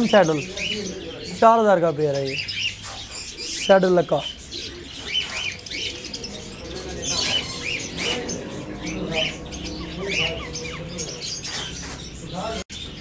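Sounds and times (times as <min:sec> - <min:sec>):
caged birds chirping and squawking: 0:00.0 - 0:13.0
lower bird calls: 0:00.0 - 0:13.0.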